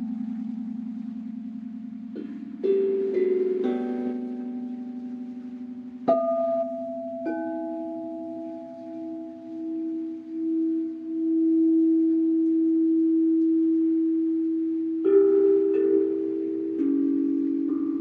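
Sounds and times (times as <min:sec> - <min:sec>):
singing bowl low hum: 0:00.0 - 0:18.0.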